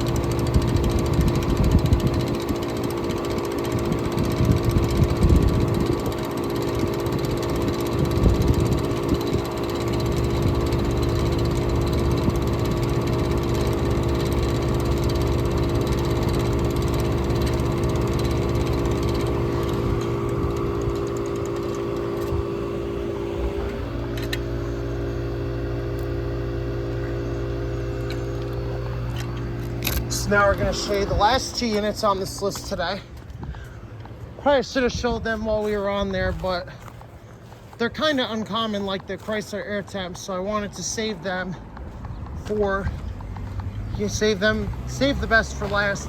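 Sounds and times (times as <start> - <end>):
air conditioner unit humming: 0.0 - 43.0, 43.9 - 46.0
air buffeting microphone: 0.0 - 46.0.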